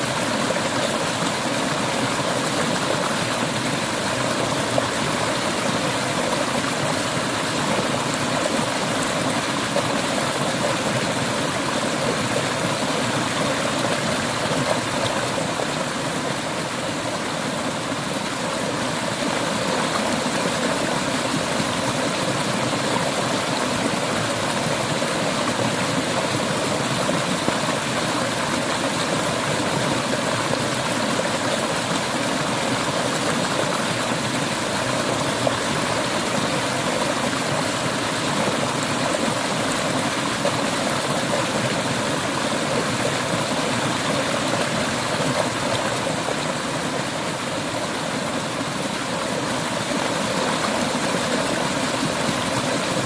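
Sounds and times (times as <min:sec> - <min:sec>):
river water flowing over stones: 0:00.0 - 0:53.0.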